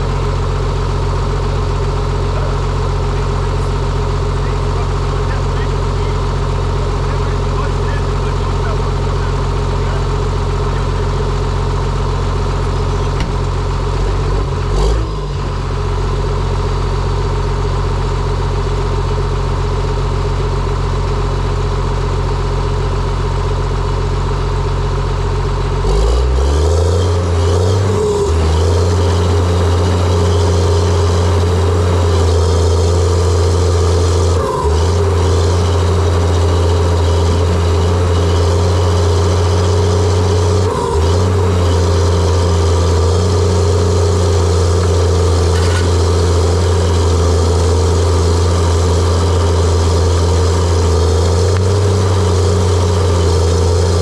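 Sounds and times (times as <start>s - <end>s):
dozer diesel engine running: 0.0s - 54.0s.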